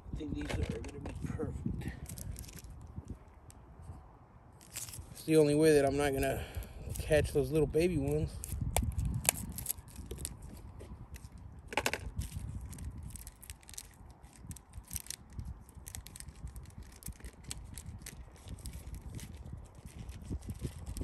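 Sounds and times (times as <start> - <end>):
close crinkling: 0.3 - 4.0, 4.6 - 5.9, 6.5 - 21.0.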